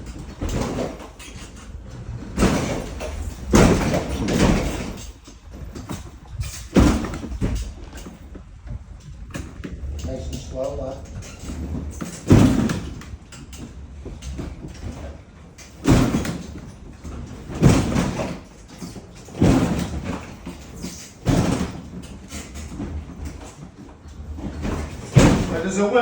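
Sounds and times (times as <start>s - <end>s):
scooter thudding down steps: 0.0s - 26.0s.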